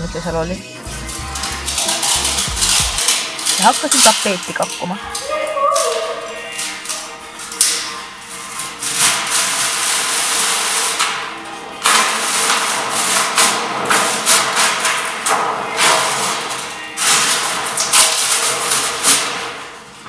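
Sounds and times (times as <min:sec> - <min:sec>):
wallpaper tearing and scraping: 0:00.9 - 0:20.0.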